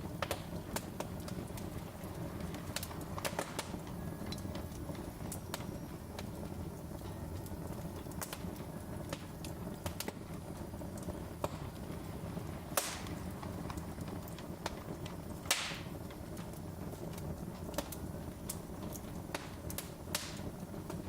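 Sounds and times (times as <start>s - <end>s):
loud hissing fire pops: 0.0s - 21.0s
wood fire crackling: 0.0s - 21.0s.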